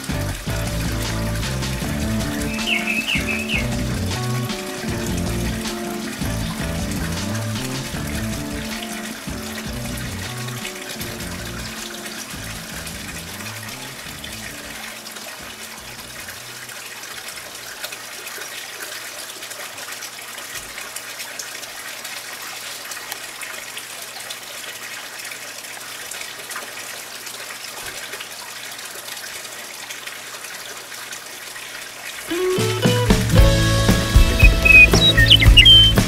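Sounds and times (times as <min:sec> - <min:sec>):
running water hiss: 0:00.0 - 0:36.0.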